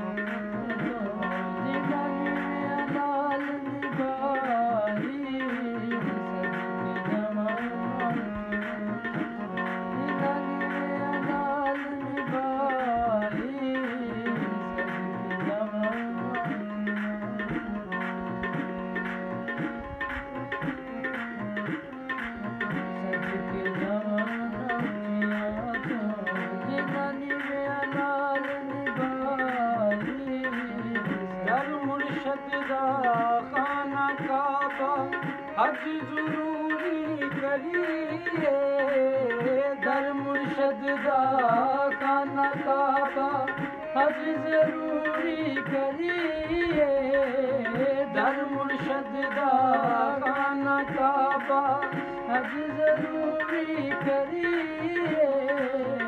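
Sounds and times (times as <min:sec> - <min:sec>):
harmonium held notes: 0:00.0 - 0:56.0
percussion beat: 0:00.0 - 0:56.0.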